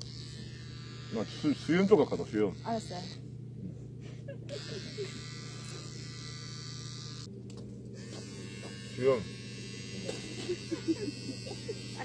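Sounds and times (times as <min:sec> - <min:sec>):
electric hair trimmer buzzing: 0:00.0 - 0:03.4, 0:04.2 - 0:12.0.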